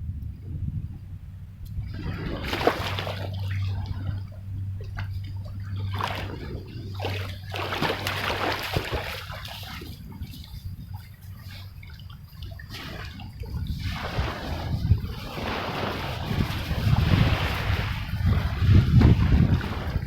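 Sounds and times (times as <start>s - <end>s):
steady low hum: 0.0s - 20.0s
water splashing and sloshing: 1.6s - 20.0s.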